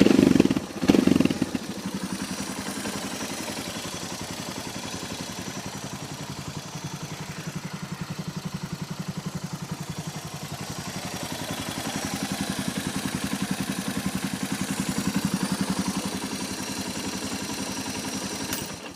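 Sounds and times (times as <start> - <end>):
motorcycle engine idling with clatter: 0.0 - 18.9.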